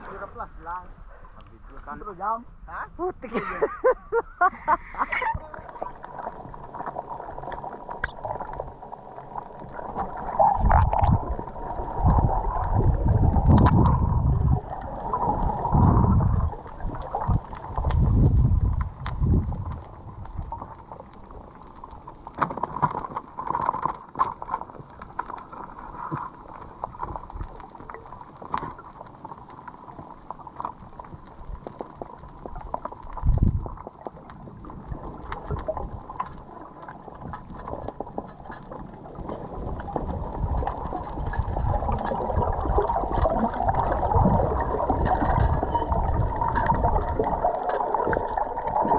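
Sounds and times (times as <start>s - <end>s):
water rushing underwater: 4.4s - 48.9s.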